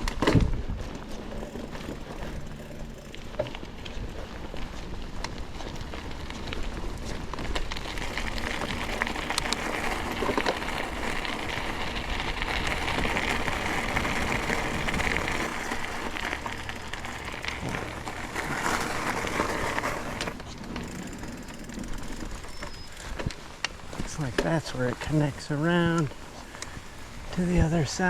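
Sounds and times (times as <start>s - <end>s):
bicycle clicks and rattles: 0.0s - 28.0s
bicycle tyres hissing on trail: 0.0s - 28.0s.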